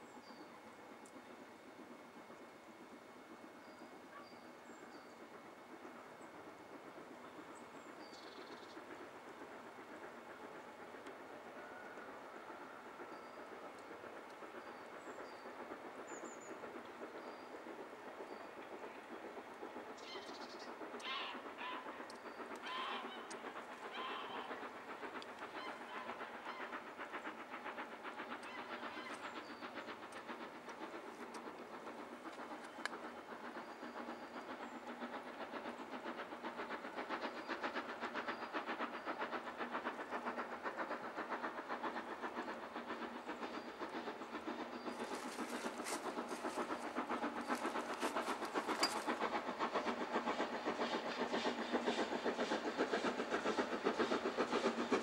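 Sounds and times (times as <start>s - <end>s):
steam locomotive exhaust chuffs: 0.0s - 55.0s.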